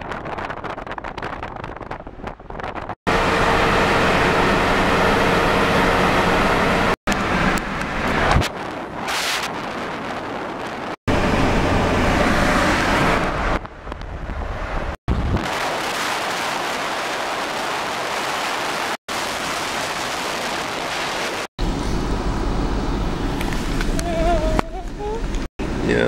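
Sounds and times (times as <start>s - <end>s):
car road and wind noise: 0.0s - 26.0s.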